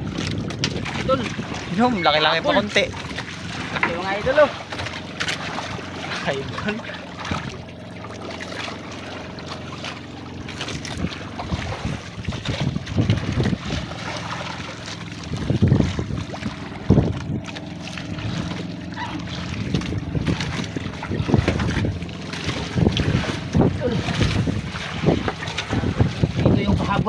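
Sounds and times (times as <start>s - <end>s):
water slapping and splashing: 0.0s - 27.0s
wind buffeting microphone: 0.0s - 27.0s.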